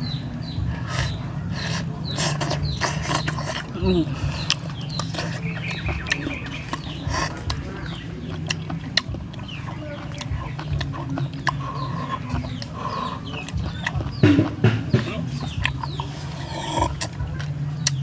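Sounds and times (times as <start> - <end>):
slurping snails from shells: 0.8 - 18.0.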